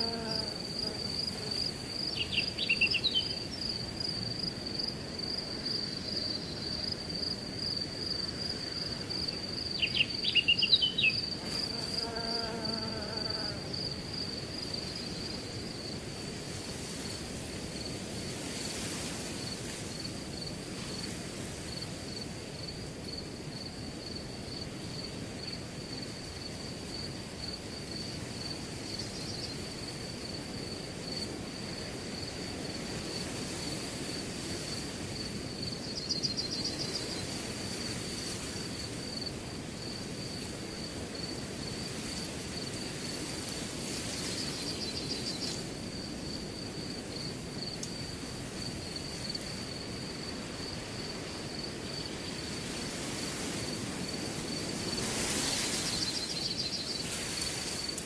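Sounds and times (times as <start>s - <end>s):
crickets chirping: 0.0s - 58.0s
wind in grass: 0.0s - 58.0s.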